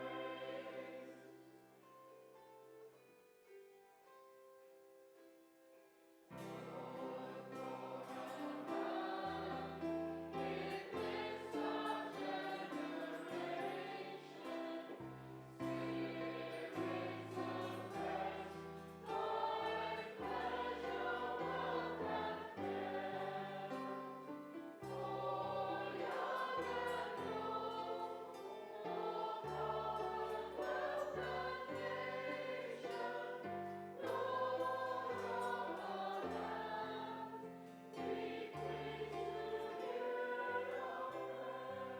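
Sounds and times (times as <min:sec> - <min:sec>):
voices singing a hymn: 0:00.0 - 0:02.0, 0:06.3 - 0:41.9
instrumental accompaniment: 0:06.4 - 0:41.9.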